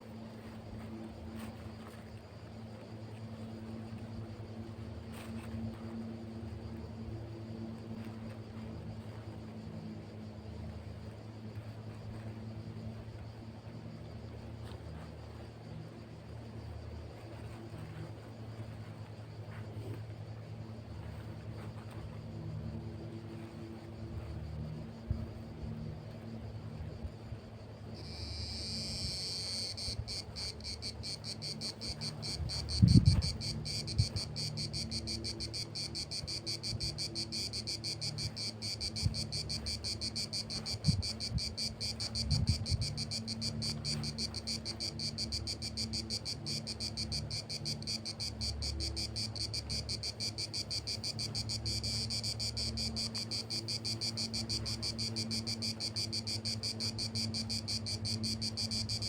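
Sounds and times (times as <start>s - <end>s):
insects trilling: 0.2s - 59.0s.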